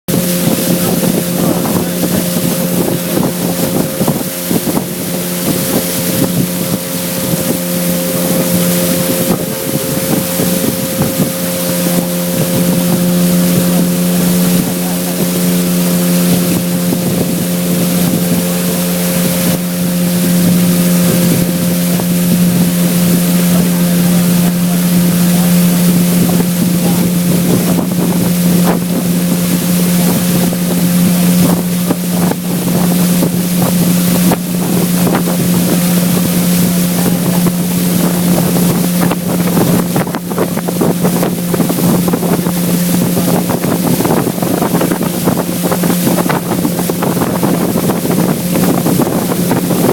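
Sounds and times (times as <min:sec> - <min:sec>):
outboard motor running: 0:00.0 - 0:49.9
water noise: 0:00.0 - 0:49.9
rushing wind: 0:00.1 - 0:49.9.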